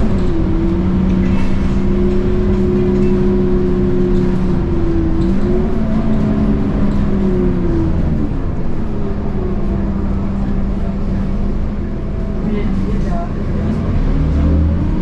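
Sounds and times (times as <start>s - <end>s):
bus diesel engine under throttle: 0.0s - 15.0s.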